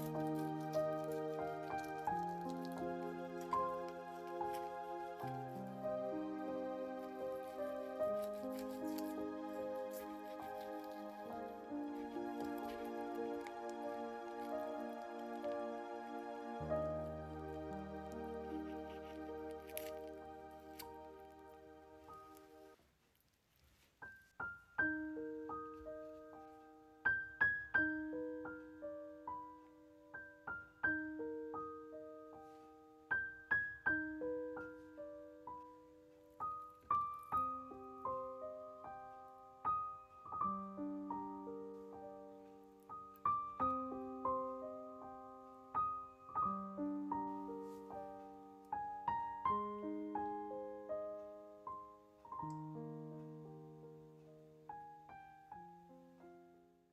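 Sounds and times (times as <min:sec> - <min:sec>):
gentle piano melody: 0:00.0 - 0:23.1, 0:23.7 - 0:56.9.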